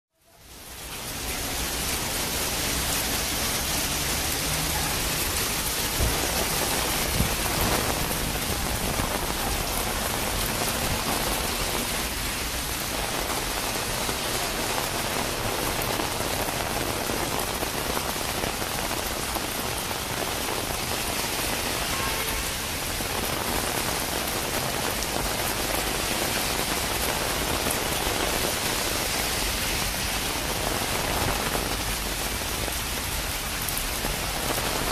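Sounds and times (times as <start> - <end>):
heavy rain on street: 0.1 - 34.9.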